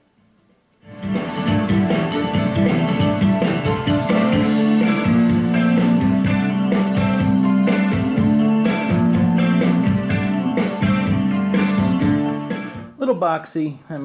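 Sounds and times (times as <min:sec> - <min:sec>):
guitar music with steady beat: 0:00.8 - 0:13.2.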